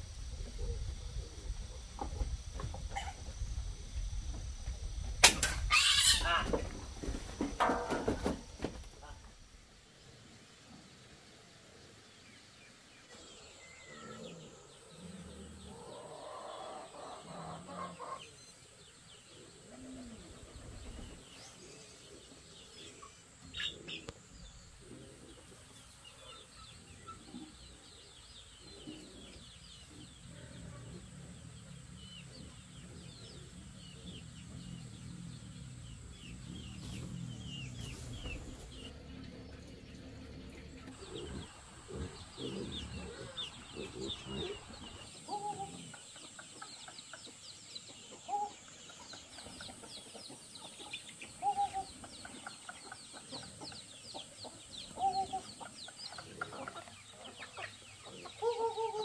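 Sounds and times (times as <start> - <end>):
chickens clucking: 0.0 - 9.4, 13.0 - 59.0
small birds chirping: 11.7 - 59.0.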